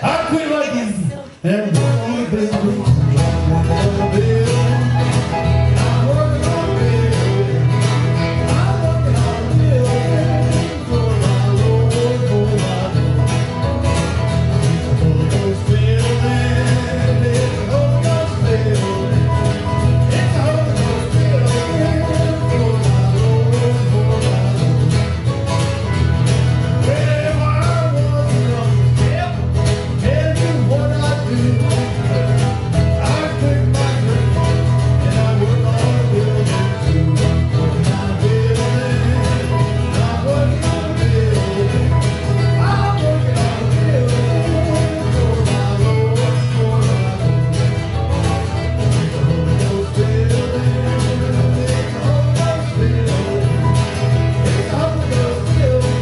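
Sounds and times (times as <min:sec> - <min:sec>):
person singing: 0:00.0 - 0:13.7, 0:14.6 - 0:25.2, 0:26.8 - 0:48.1, 0:48.9 - 0:56.0
bluegrass string band playing: 0:00.0 - 0:56.0
strummed guitar: 0:00.0 - 0:56.0.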